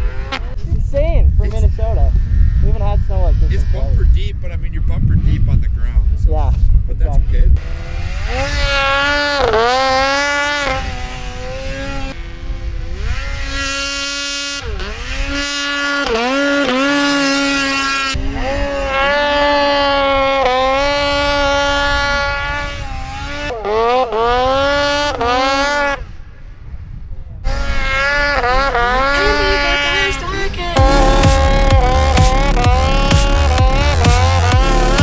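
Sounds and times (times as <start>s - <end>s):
snowmobile engine revving: 0.0s - 6.0s, 7.0s - 26.2s, 27.4s - 35.0s.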